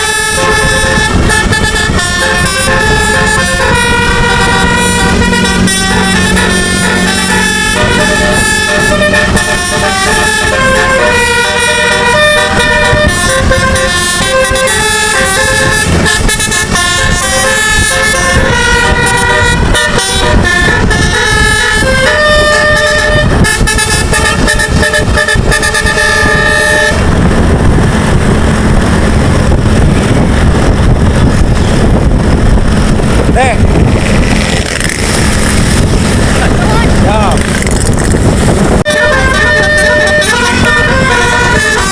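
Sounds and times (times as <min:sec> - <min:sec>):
bus musical air horn tune: 0:00.0 - 0:32.9, 0:38.2 - 0:41.9
steady low rumble: 0:00.0 - 0:41.9.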